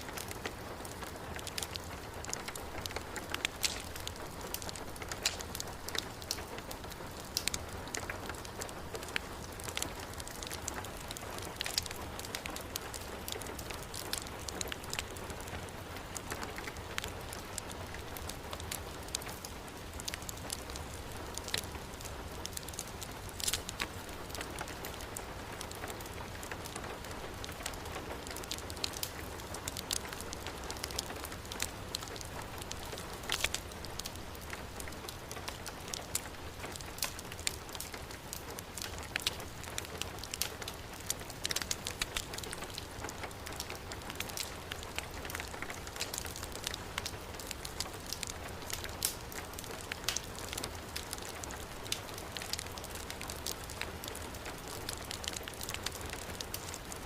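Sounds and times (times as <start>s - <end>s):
heavy rain: 0.0s - 57.0s
wood fire crackling: 0.0s - 57.0s.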